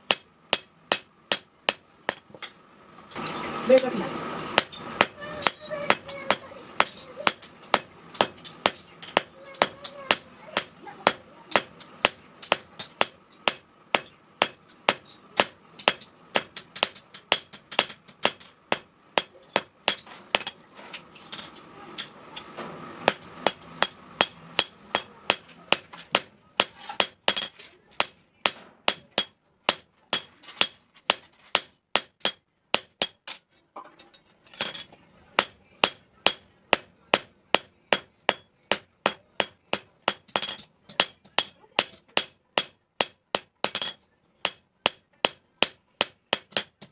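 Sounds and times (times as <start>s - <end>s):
hammer striking steel on anvil: 0.0s - 3.9s, 4.6s - 33.4s, 34.0s - 46.9s.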